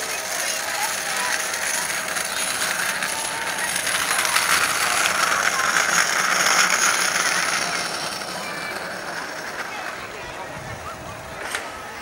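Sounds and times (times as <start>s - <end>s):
distant propeller plane engine: 0.0s - 12.0s.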